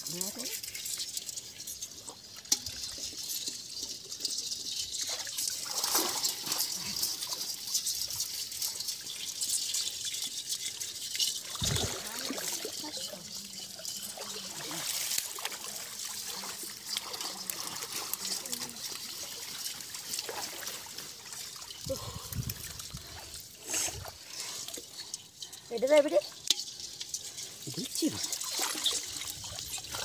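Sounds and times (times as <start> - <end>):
shallow water splashing: 5.0 - 30.0.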